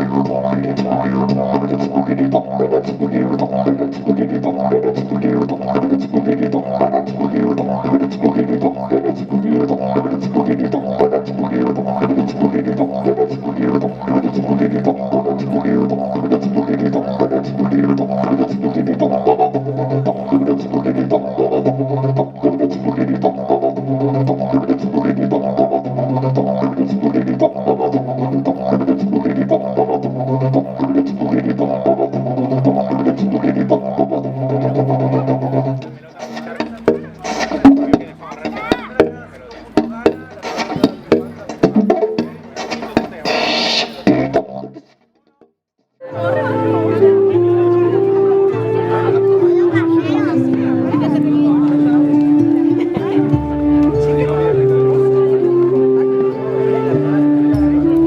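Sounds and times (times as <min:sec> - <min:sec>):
droning wind instrument: 0:00.0 - 0:43.9, 0:46.0 - 0:58.0
fast rhythmic pulsing: 0:00.0 - 0:45.0, 0:46.1 - 0:58.0.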